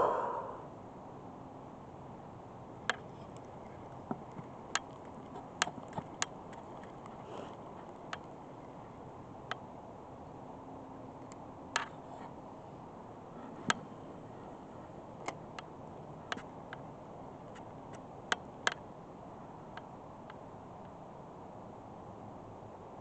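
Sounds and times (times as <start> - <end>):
steady wind: 0.0 - 23.0.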